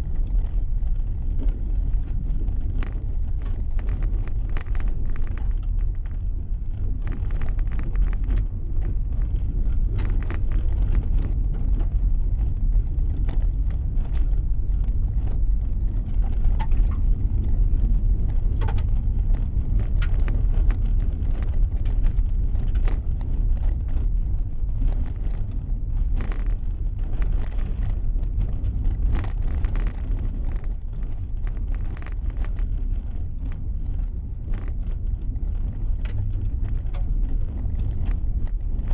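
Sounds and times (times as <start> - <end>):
car tyre and engine rumble: 0.0 - 38.9
small clicks and rattles: 0.0 - 38.9.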